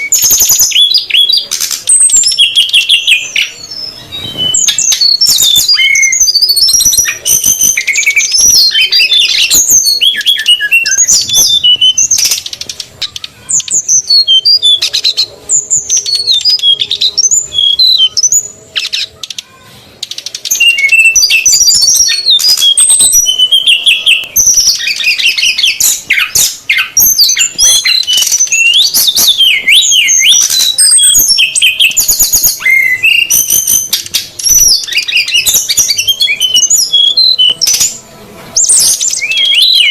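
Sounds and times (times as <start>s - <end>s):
birds chirping and whistling: 0.0s - 39.9s.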